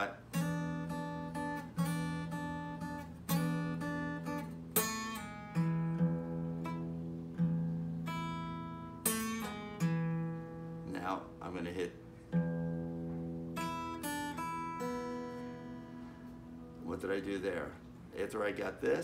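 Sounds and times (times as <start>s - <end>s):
fingerpicked acoustic guitar: 0.0s - 18.6s.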